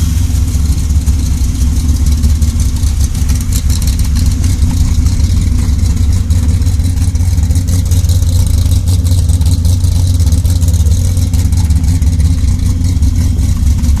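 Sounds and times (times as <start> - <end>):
engine idling rough and choppy: 0.0 - 14.0.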